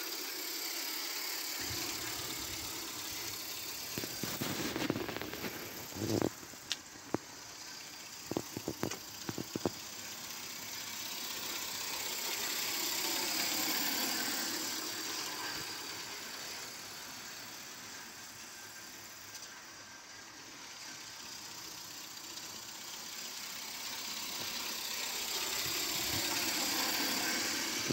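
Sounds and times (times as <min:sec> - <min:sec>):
steam locomotive running: 0:00.0 - 0:27.9.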